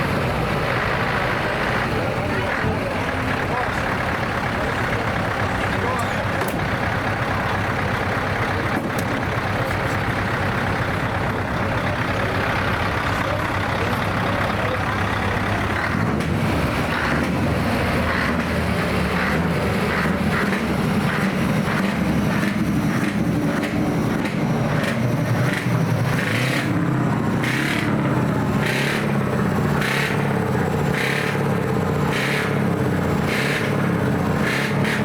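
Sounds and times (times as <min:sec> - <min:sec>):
diesel truck engines running: 0:00.0 - 0:35.0
engine revving: 0:00.0 - 0:35.0.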